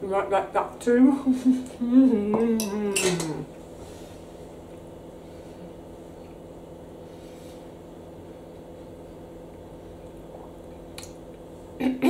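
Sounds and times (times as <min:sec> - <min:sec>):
low hum of room tone: 0:00.0 - 0:12.0.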